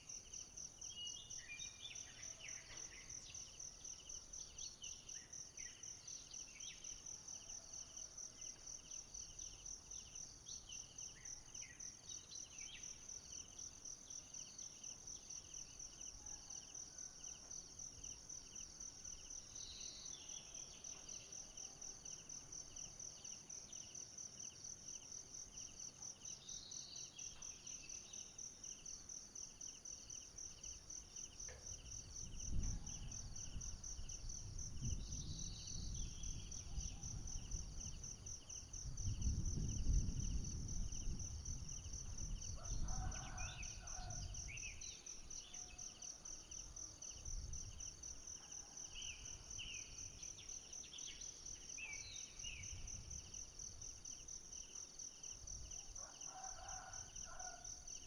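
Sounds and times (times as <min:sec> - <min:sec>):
lower slower insect trill: 0:00.0 - 0:58.0.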